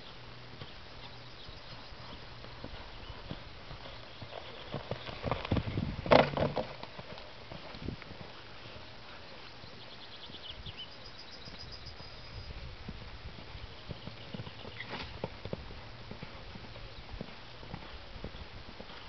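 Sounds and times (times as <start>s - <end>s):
horse hoofbeats on sand: 0.0s - 10.5s, 12.6s - 19.0s.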